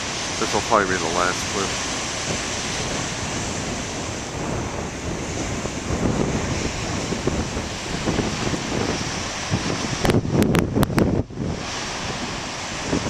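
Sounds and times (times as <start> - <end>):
ocean surf breaking: 0.0 - 13.0
wind on microphone: 0.0 - 13.0.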